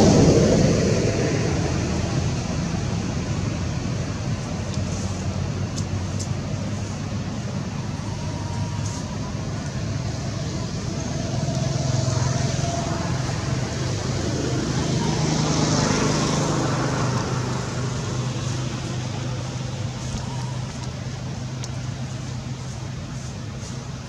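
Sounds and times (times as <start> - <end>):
traffic engine hum: 0.0 - 24.0.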